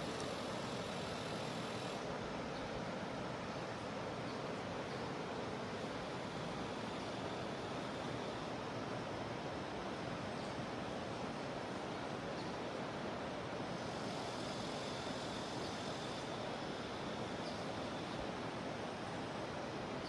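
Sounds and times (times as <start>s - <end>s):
faint cicada drone: 0.0s - 20.0s
flowing river water: 0.0s - 20.0s.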